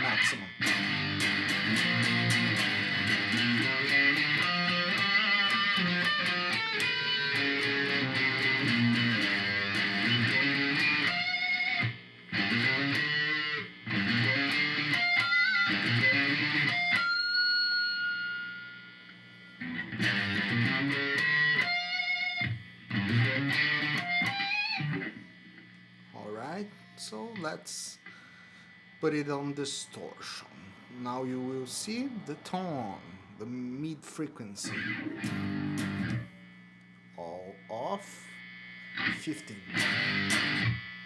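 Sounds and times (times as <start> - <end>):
distorted electric guitar: 0.0 - 41.0.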